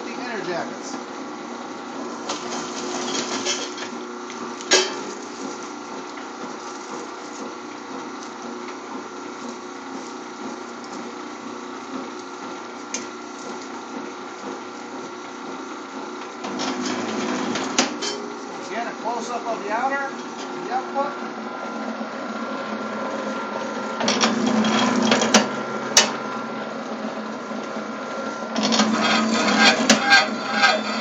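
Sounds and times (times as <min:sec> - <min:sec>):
wire stripping machine running: 0:00.0 - 0:31.0.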